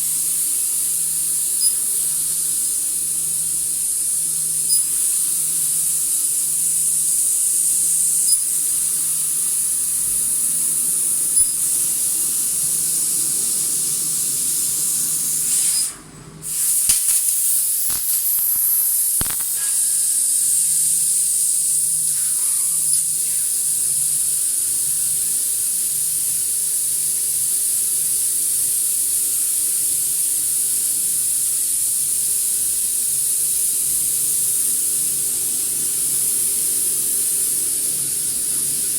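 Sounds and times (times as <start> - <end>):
high-pitched hiss: 0.0 - 38.9.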